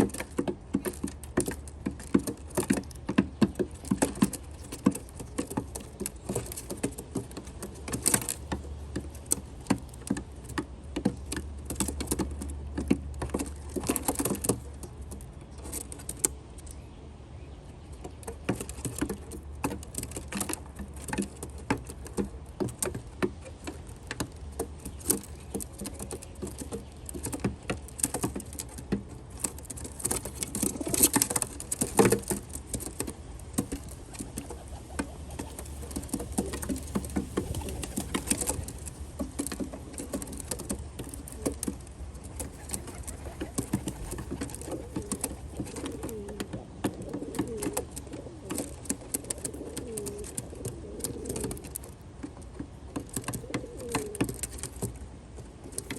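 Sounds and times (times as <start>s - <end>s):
doves pecking beak taps: 0.0s - 16.9s, 17.8s - 55.9s.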